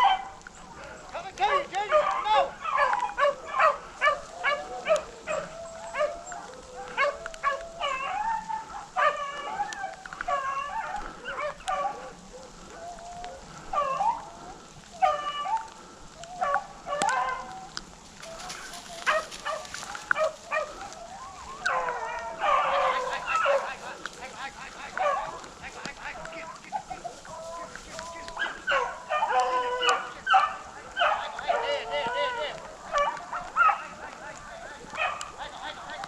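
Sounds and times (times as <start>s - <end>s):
hounds baying and yelping: 0.0s - 36.0s.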